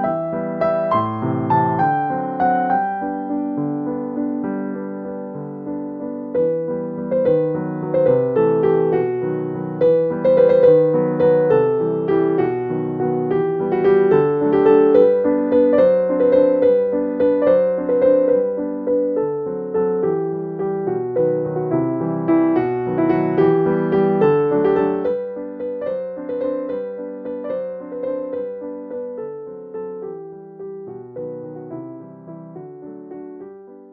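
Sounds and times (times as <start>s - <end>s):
gentle piano melody: 0.0s - 33.9s.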